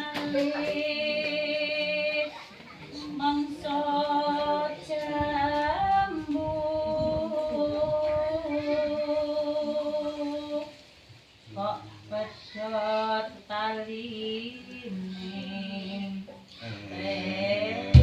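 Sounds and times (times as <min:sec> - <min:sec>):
women singing slow melody: 0:00.0 - 0:18.0.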